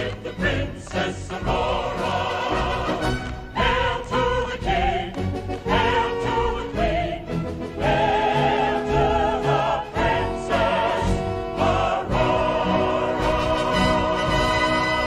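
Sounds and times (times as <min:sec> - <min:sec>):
choir singing with orchestra: 0:00.0 - 0:15.0.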